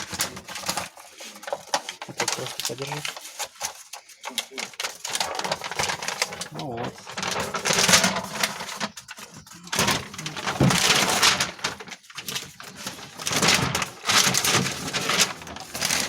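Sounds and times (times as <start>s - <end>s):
foil sheet crinkling: 0.0s - 16.0s.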